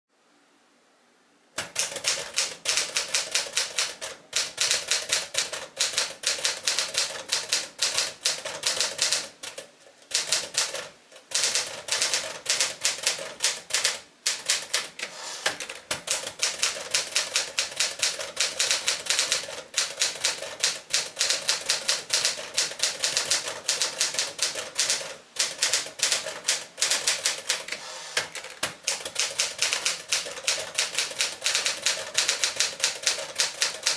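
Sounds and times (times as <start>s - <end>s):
typewriter keystrikes: 1.6s - 33.9s.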